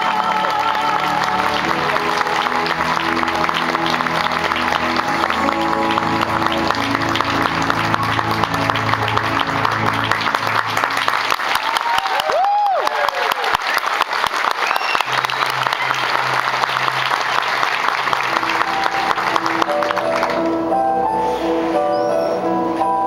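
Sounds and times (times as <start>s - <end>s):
music over sound system: 0.0s - 11.4s, 15.1s - 23.0s
audience applauding: 0.0s - 20.7s.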